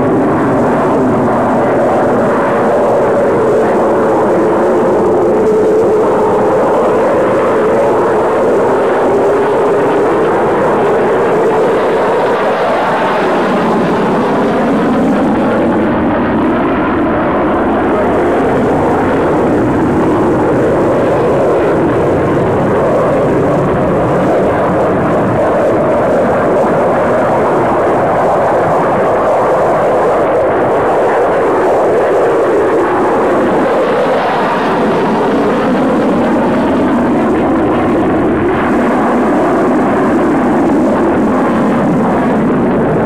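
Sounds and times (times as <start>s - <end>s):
jet engine roaring past: 0.0s - 43.0s.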